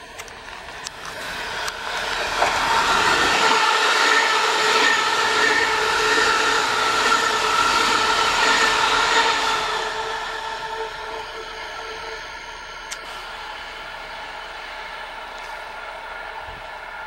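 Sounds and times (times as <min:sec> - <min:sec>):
steady high tone: 0:00.0 - 0:17.0
train wheels rushing on rail: 0:00.0 - 0:17.0.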